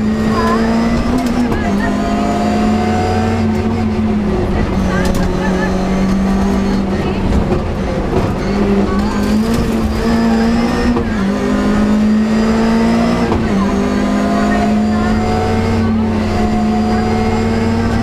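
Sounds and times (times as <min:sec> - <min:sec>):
rally car engine: 0:00.0 - 0:18.0.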